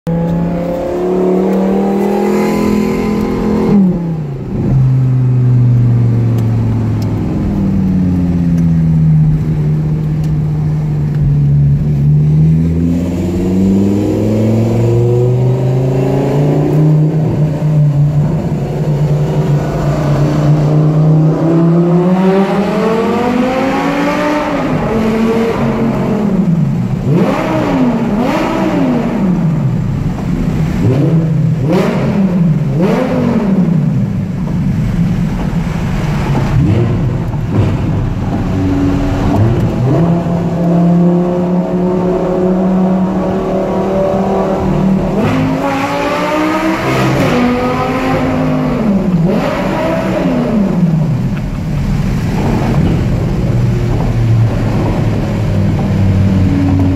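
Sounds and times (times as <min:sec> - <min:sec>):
sports car engine revving: 0:00.1 - 0:56.9.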